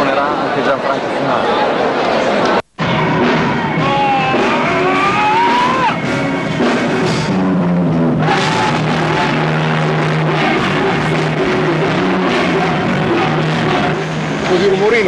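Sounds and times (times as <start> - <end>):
rock band playing: 2.8 - 15.0.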